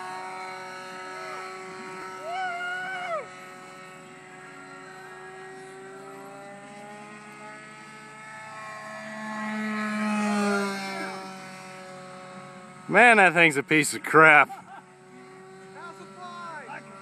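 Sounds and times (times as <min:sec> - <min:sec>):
model airplane motor droning: 0:00.0 - 0:17.0.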